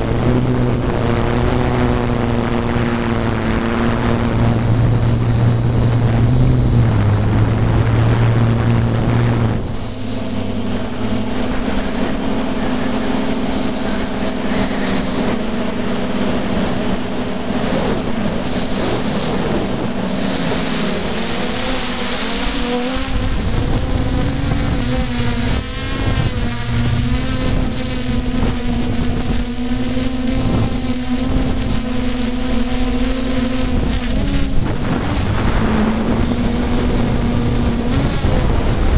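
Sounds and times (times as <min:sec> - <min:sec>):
drone motors buzzing and whining: 0:00.0 - 0:38.9.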